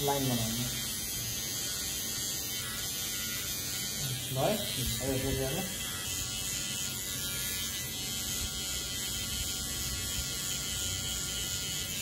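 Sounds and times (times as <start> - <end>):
electric hair trimmer buzzing: 0.0 - 12.0.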